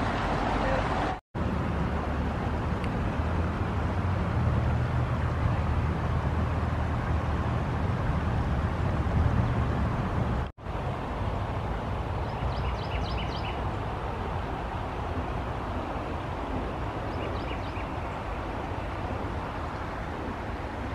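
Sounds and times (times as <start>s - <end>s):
river water running over pebbles: 0.0s - 9.0s, 10.6s - 20.9s.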